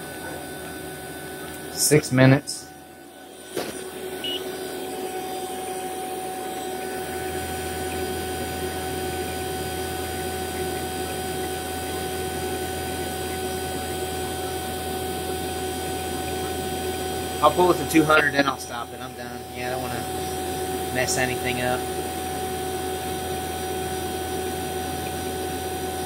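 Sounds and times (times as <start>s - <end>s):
vacuum pump humming: 0.0s - 26.0s.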